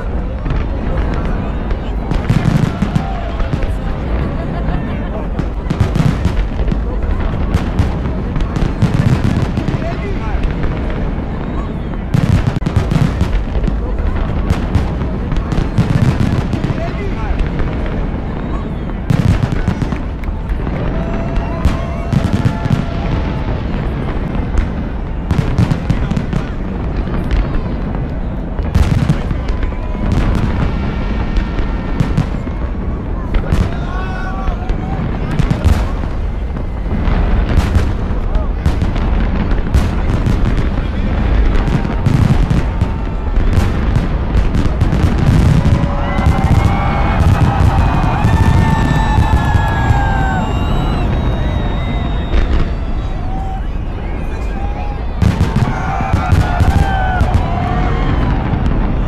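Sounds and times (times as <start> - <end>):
fireworks booms and cracks: 0.0 - 59.0.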